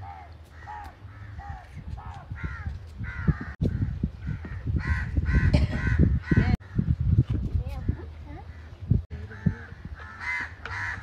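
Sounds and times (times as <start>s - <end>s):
crows cawing: 0.0s - 6.8s, 8.5s - 11.0s.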